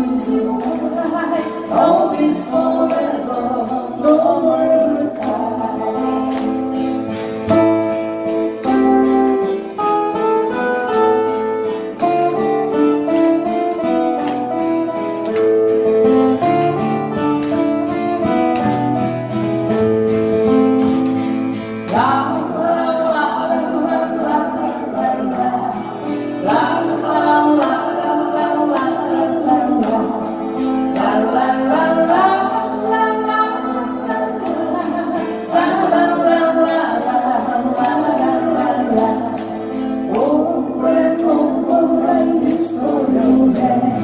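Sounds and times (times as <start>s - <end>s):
acoustic guitars strumming chords: 0.0s - 44.0s.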